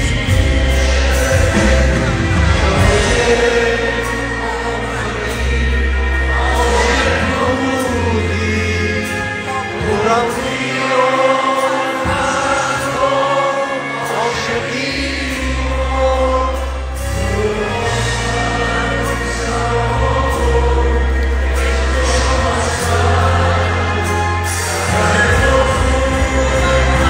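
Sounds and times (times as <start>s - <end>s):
man singing: 0.0s - 20.9s, 21.6s - 27.0s
live pop band: 0.0s - 27.0s.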